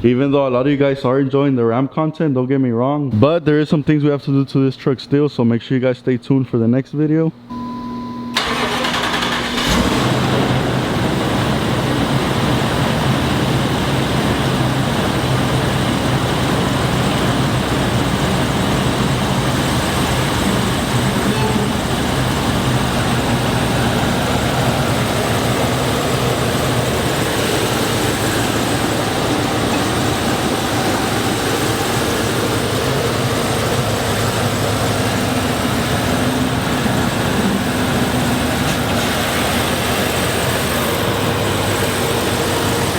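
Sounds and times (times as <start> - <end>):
truck engine running: 8.4 - 42.9.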